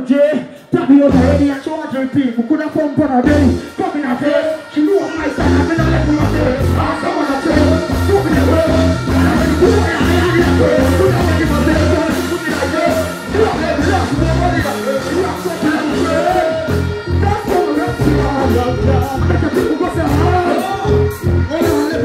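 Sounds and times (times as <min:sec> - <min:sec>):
dancehall music over pa: 0:00.0 - 0:22.0
heavy bass beat: 0:00.8 - 0:01.8, 0:03.0 - 0:22.0.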